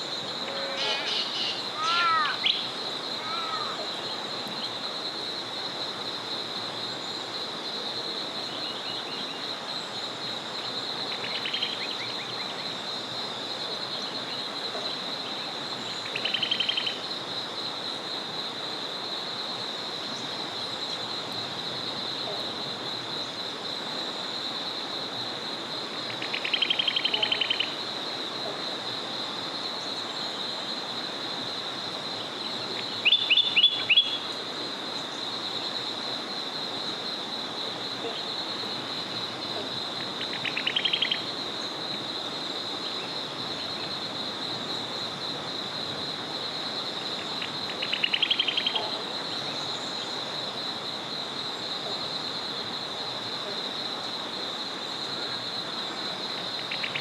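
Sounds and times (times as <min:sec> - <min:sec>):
forest river flowing: 0:00.0 - 0:57.0.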